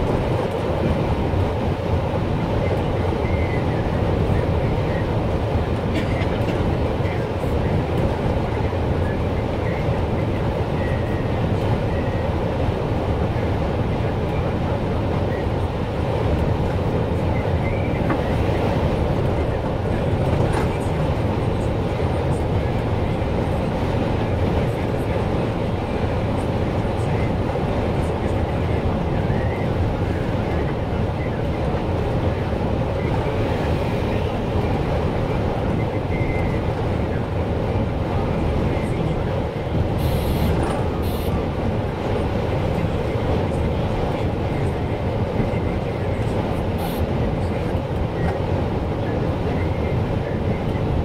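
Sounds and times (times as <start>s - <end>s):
vehicle road and engine noise: 0.0s - 51.0s.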